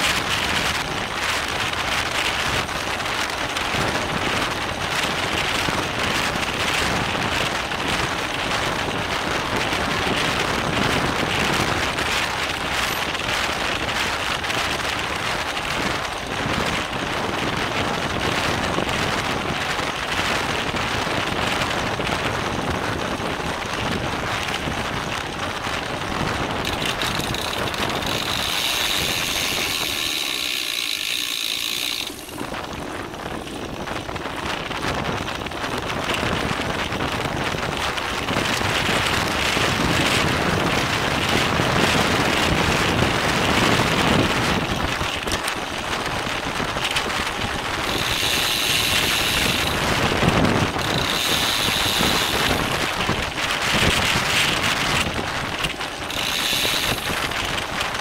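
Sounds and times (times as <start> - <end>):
bicycle tyre and road noise: 0.0 - 58.0
freewheel hub buzzing: 0.0 - 58.0
wind buffeting microphone: 0.0 - 58.0.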